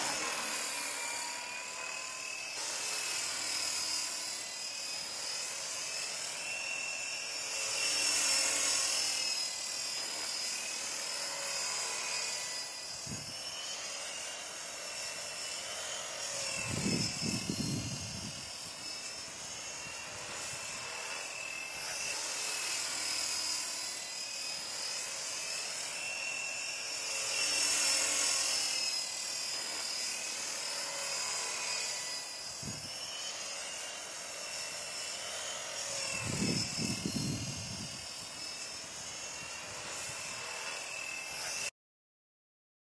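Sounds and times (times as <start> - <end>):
rc helicopter motor whine: 0.0 - 41.7.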